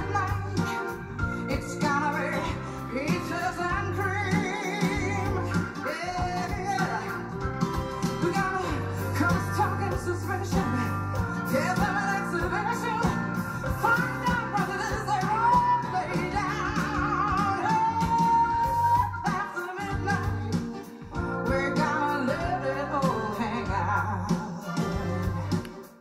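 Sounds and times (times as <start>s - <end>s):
pop-rock song through speakers: 0.0s - 26.0s.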